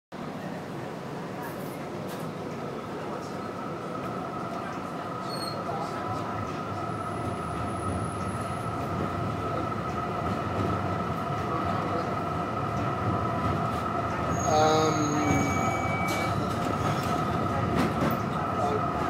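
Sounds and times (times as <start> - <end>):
tram wheels rumbling on rails: 0.2 - 19.0
tram motor whine: 3.0 - 19.0.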